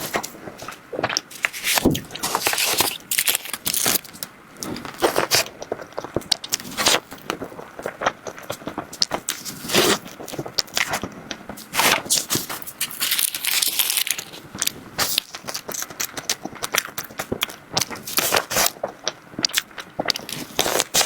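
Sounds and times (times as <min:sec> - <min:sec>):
chewing with crackles: 0:00.0 - 0:21.0.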